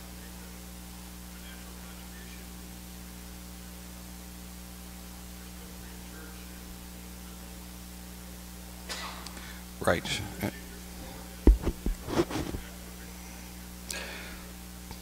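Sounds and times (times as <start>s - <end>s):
electrical mains hum with hiss: 0.0s - 15.0s.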